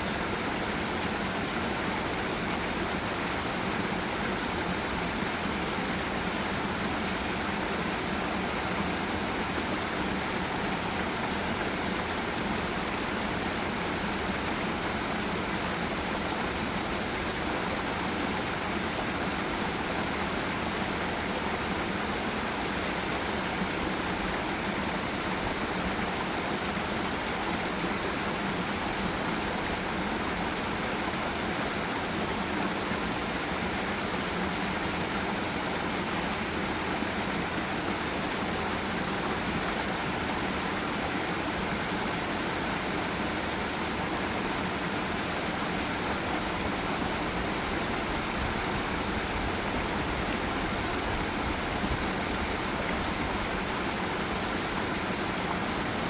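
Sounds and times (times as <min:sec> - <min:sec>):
stream and waterfall rushing: 0:00.0 - 0:56.0.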